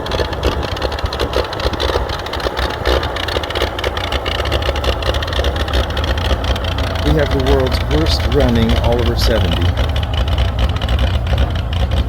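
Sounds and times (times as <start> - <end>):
tractor engine idling roughly: 0.0 - 12.0.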